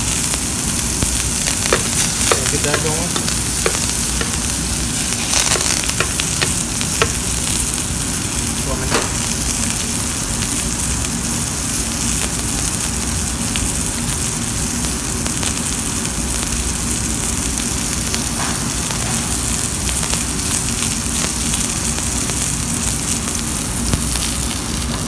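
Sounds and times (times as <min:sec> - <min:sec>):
butter sizzling around steak: 0:00.0 - 0:25.0.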